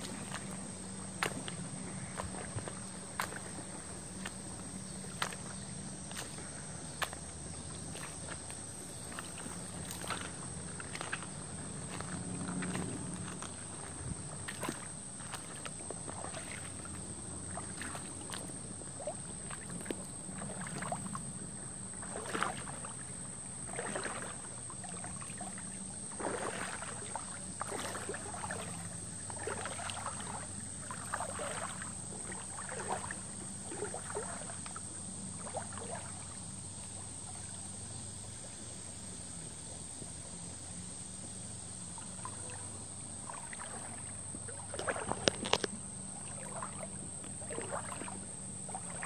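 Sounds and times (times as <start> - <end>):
creek water sloshing and splashing: 0.0 - 49.0.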